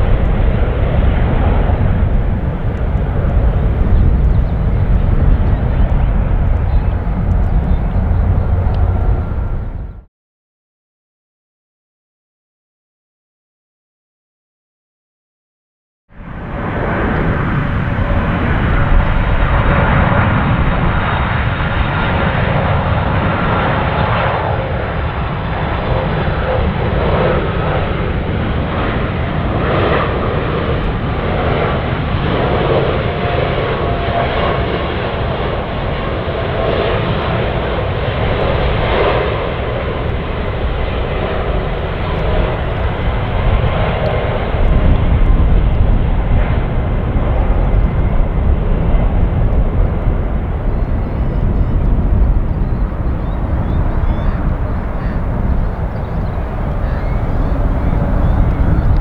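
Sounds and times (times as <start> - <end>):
jet engines rumbling and whining: 0.0 - 10.1, 16.2 - 59.0.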